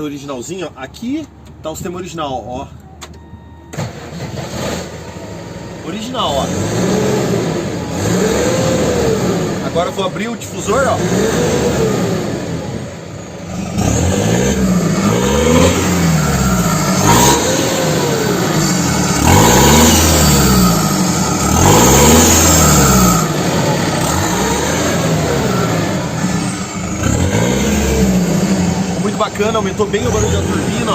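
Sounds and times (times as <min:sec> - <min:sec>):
diesel engine revving: 0:00.0 - 0:30.9.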